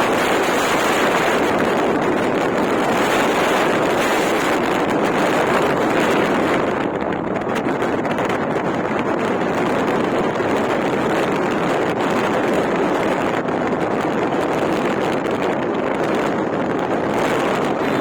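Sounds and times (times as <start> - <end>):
vehicle engine and road noise: 0.0 - 18.0
wind buffeting microphone: 0.0 - 18.0.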